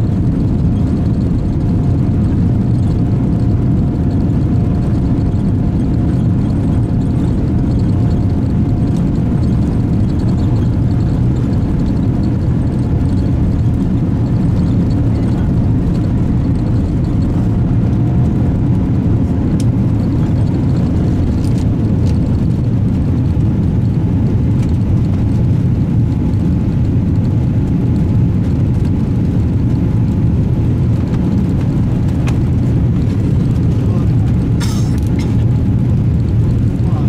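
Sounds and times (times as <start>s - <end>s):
jet engine rumble in cabin: 0.0s - 37.0s.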